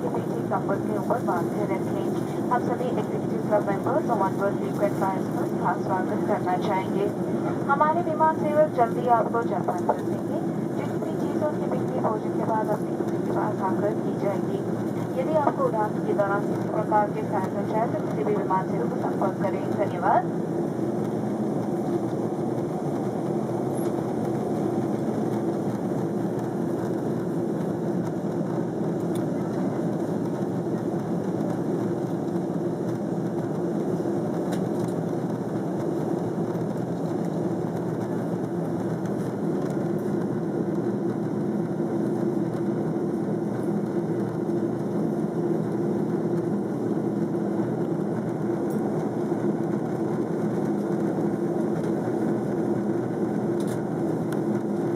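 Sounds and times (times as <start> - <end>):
airliner cabin drone: 0.0 - 54.9.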